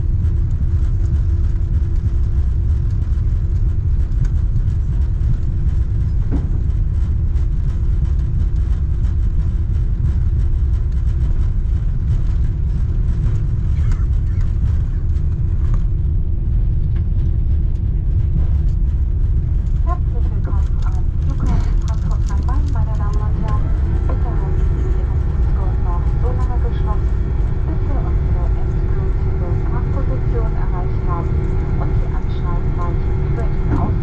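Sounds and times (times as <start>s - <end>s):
aircraft cabin rumble: 0.0s - 34.0s
constant hum: 0.0s - 34.0s
faint clicks and rattles: 0.2s - 16.1s, 16.8s - 34.0s.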